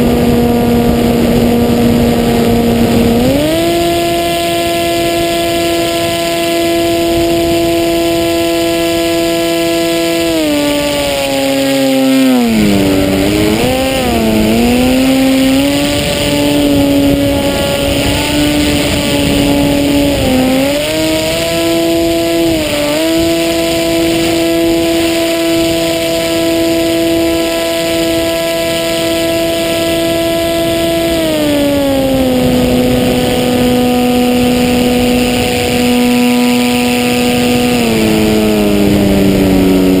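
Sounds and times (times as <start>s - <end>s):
electric motor whine: 0.0s - 40.0s
wind rush: 0.0s - 40.0s.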